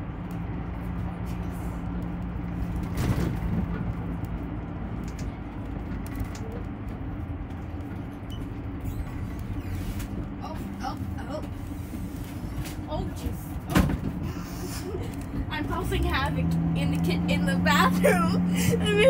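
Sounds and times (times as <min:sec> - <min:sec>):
low engine drone: 0:00.0 - 0:19.0
road noise: 0:00.0 - 0:19.0.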